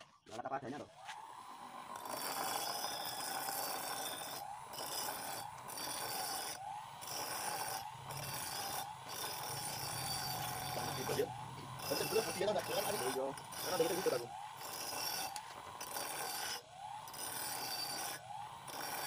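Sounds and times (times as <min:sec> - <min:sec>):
bench grinder grinding steel: 0:01.0 - 0:19.0.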